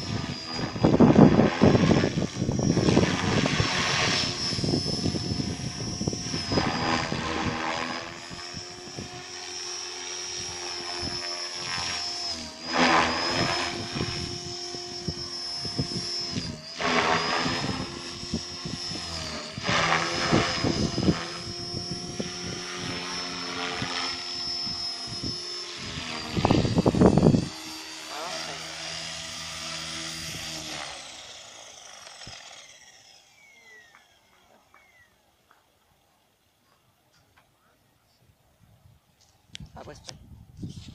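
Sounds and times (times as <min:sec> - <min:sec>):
rotor noise rushing: 0:00.0 - 0:33.9
rc helicopter motor whine: 0:00.0 - 0:36.6, 0:39.2 - 0:40.9.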